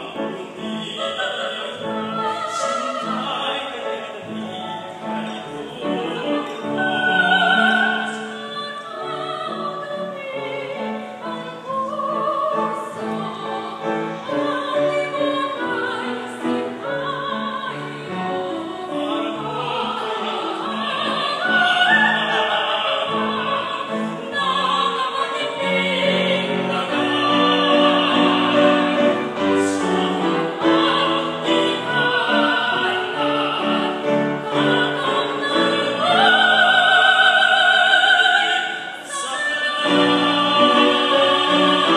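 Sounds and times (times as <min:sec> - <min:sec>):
people singing operatic harmony: 0:00.0 - 0:41.9
piano accompaniment: 0:00.0 - 0:41.9.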